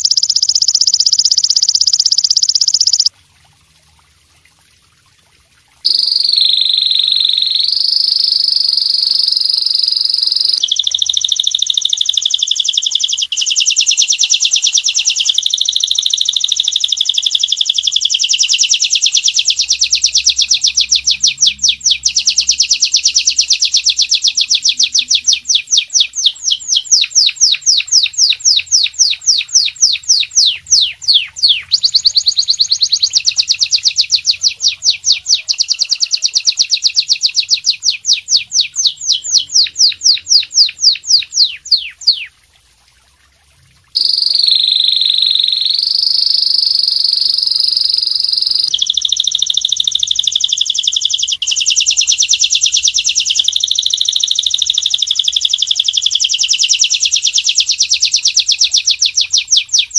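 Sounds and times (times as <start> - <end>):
songbird singing trills: 0.0 - 3.1, 5.9 - 42.4, 44.0 - 59.9.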